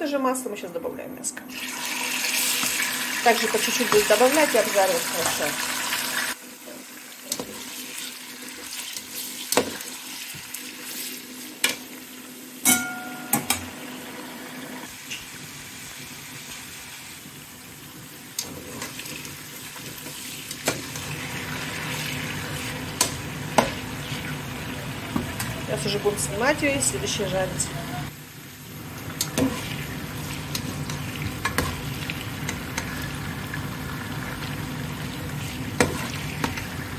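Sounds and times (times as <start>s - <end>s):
meat sizzling in hot oil: 1.5s - 12.6s, 13.8s - 27.4s, 28.1s - 36.9s.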